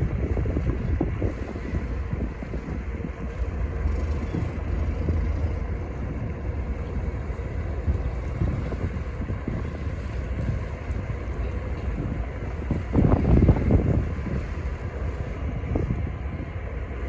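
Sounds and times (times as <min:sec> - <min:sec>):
low rumble of boat engines: 0:00.0 - 0:17.0
wind buffeting microphone: 0:00.0 - 0:17.0.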